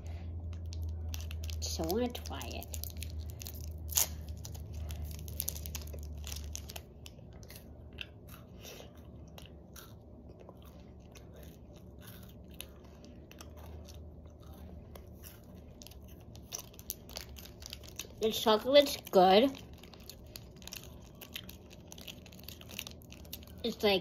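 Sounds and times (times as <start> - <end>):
low rumble: 0.0 - 23.8
chewing crisp wafer: 0.4 - 23.8.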